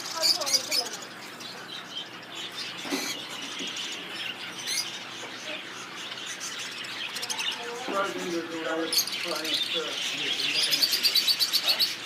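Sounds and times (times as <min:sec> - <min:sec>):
songbird chirping and trilling: 0:00.0 - 0:12.0.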